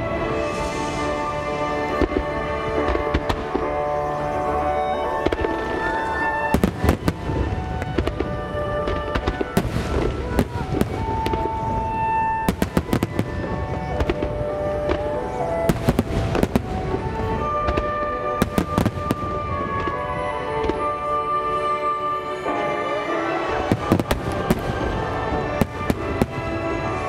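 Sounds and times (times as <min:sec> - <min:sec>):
fireworks bursting: 0:00.0 - 0:27.0
music with long held notes: 0:00.0 - 0:27.0.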